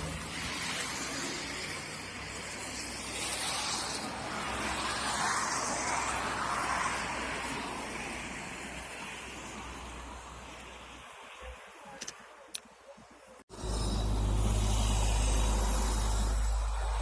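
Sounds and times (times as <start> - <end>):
car passing by: 0.0 - 11.1, 13.5 - 17.0.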